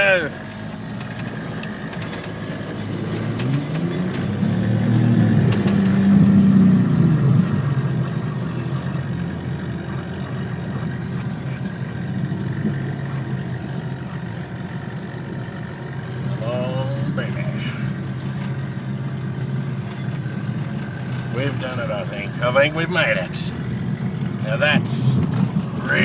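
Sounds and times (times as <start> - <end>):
vehicle engine revving under load: 0.0 - 26.0.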